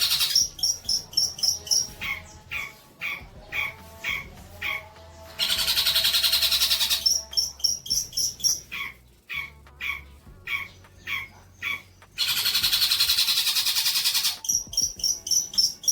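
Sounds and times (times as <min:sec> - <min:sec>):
fast bird trill: 0:00.0 - 0:15.9
songbird chirping: 0:00.0 - 0:15.9.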